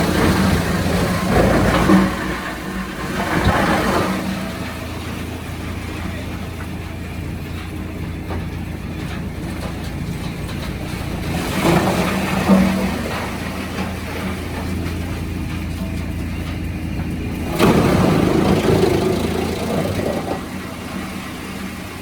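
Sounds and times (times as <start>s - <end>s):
sawmill machinery humming: 0.0s - 22.0s.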